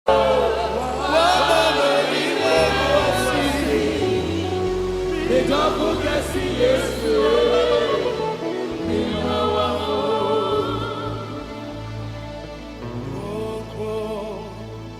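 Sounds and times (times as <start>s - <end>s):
gospel choir singing: 0.1s - 14.9s
sustained bass accompaniment: 2.4s - 14.9s.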